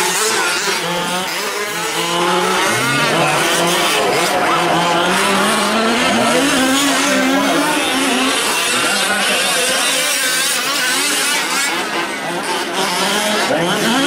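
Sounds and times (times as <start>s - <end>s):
small two-stroke engines revving: 0.0s - 14.0s.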